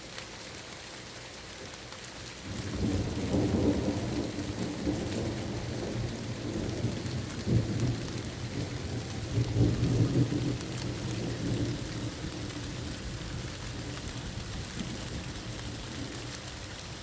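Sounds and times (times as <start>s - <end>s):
steady rain hiss: 0.0s - 17.0s
thunder rumbling: 2.5s - 16.4s.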